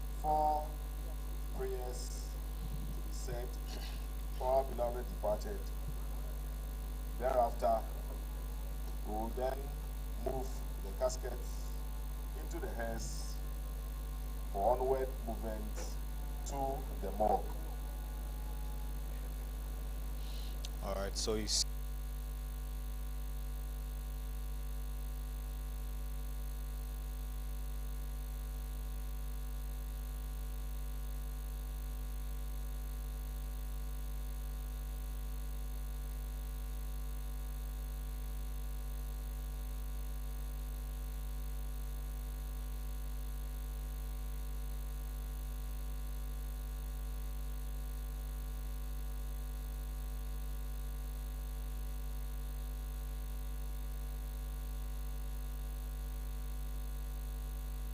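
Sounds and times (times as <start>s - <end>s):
low hum and buzz: 0.0s - 57.9s.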